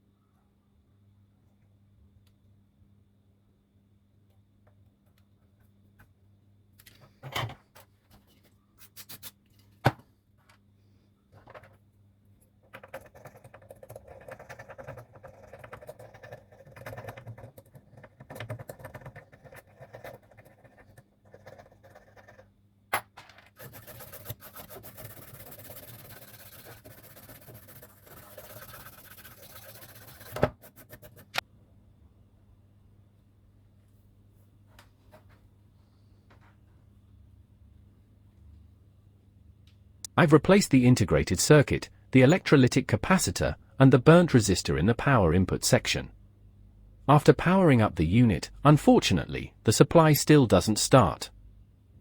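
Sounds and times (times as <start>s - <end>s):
faint electrical hum: 0.0s - 52.0s.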